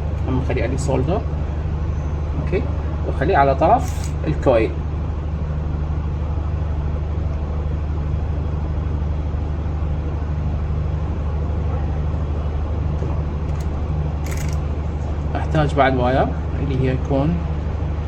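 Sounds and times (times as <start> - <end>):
low mechanical hum with hiss: 0.0 - 18.0.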